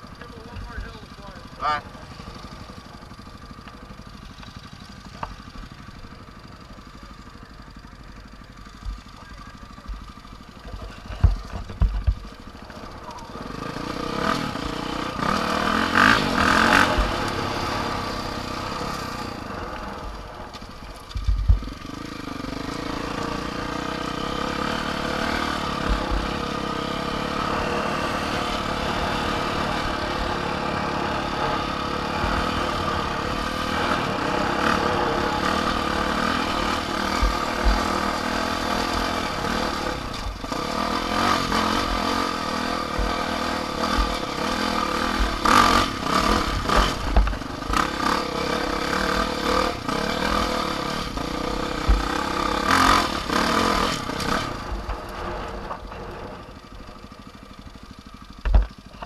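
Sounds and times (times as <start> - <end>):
vehicle engine revving: 8.8 - 59.0.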